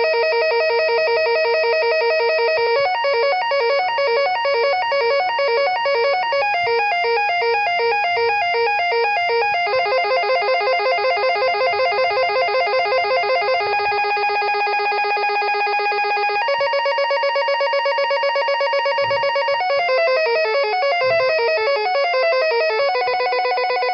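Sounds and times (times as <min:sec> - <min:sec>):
electronic telephone ringtone: 0:00.0 - 0:23.9.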